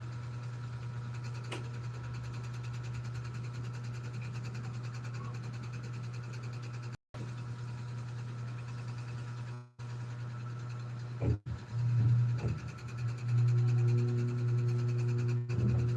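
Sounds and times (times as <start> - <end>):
low pulsing mechanical hum: 0.0 - 15.9.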